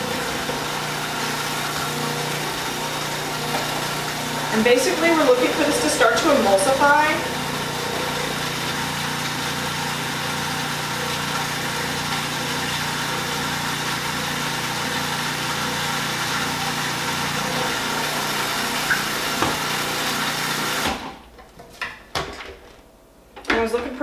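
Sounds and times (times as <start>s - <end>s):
food processor motor running: 0.0s - 21.2s.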